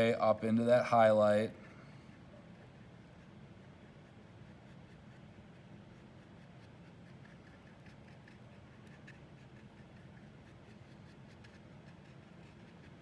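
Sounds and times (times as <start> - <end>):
low room hum: 0.0 - 13.0
paintbrush dabbing on paper: 0.0 - 13.0.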